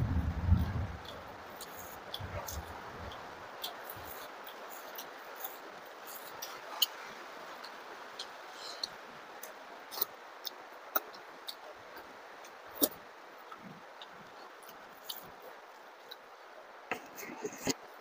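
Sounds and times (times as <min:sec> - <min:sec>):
steady background hiss: 0:00.0 - 0:18.0
mouth clicks and smacks chewing: 0:00.6 - 0:16.3.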